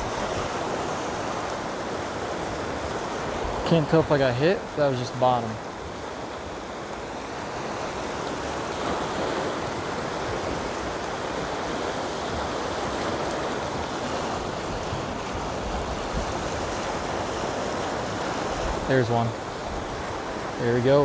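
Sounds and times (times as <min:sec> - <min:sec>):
stream rushing over rapids: 0:00.0 - 0:21.0.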